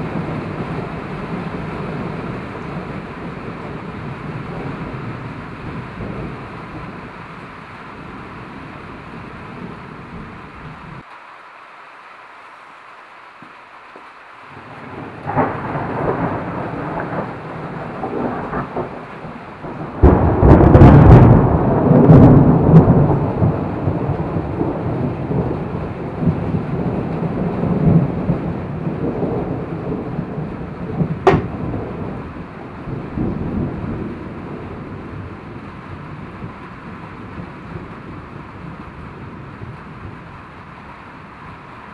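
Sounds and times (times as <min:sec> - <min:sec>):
thunder rolling: 0:00.0 - 0:11.0, 0:14.5 - 0:40.8.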